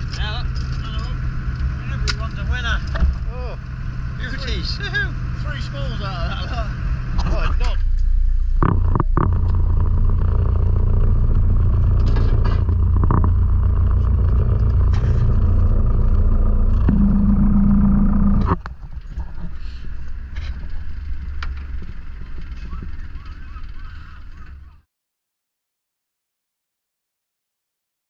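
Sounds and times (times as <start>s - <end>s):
small boat engine running: 0.0s - 24.8s.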